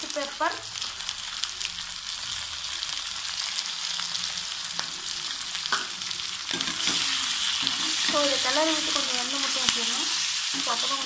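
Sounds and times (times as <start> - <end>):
food sizzling and crackling in oil: 0.0 - 11.0.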